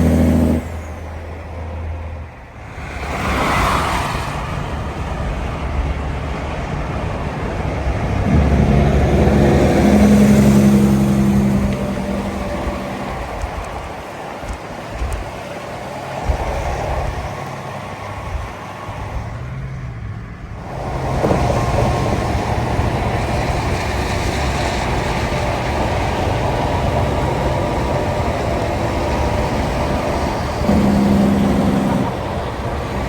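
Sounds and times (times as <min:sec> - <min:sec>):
tyre and road noise: 0:00.0 - 0:33.0
vehicle engines running: 0:00.0 - 0:33.0.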